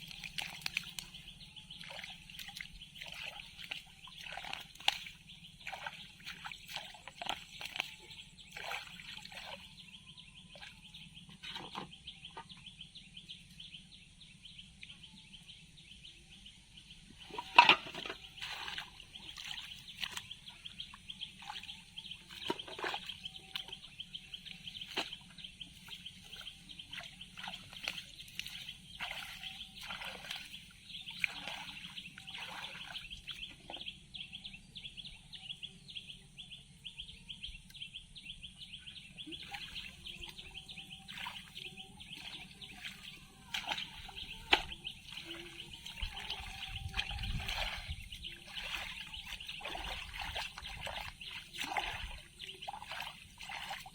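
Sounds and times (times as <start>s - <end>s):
water splashing and sloshing: 0.0s - 12.6s, 16.8s - 34.3s, 35.2s - 53.9s.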